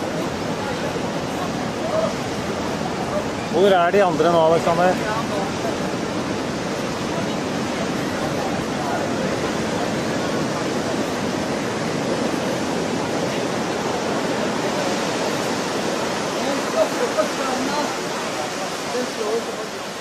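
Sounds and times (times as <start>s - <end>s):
surf breaking on beach: 0.0s - 20.0s.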